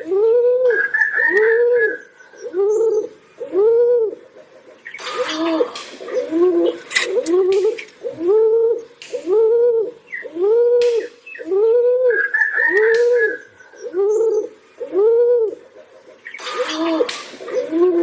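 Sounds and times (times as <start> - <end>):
pigeon cooing: 0.0 - 4.3, 5.0 - 18.0.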